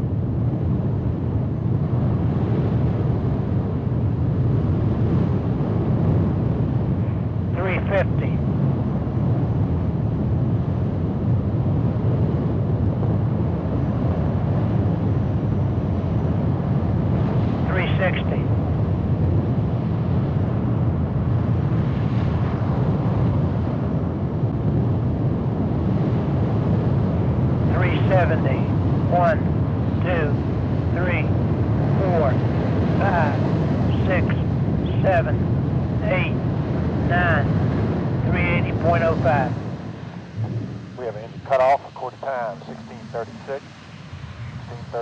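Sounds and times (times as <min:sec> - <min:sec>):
rocket engine deep rumble: 0:00.0 - 0:45.0.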